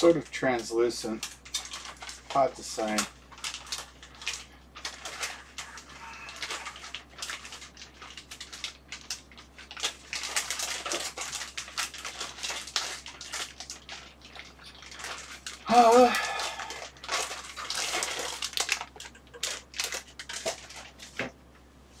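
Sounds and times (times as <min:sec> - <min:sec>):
plastic wrapping crinkling: 0:00.0 - 0:21.3.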